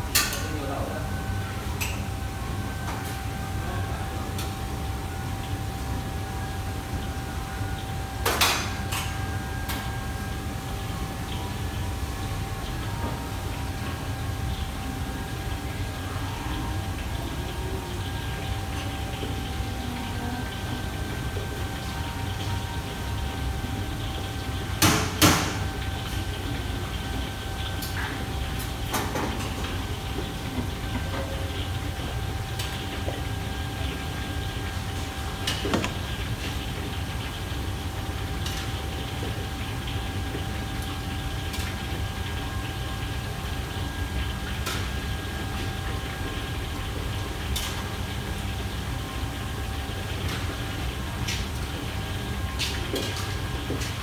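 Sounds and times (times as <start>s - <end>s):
gas range and extraction hood roar: 0.0s - 54.0s.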